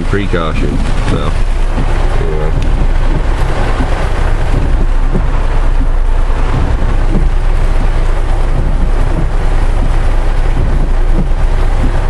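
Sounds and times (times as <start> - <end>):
heavy rain on a vehicle: 0.0 - 12.0
storm wind rumbling: 0.0 - 12.0.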